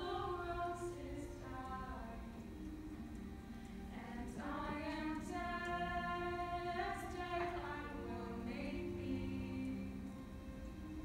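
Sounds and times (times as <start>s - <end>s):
women singing unaccompanied: 0.0s - 2.6s, 3.9s - 10.3s.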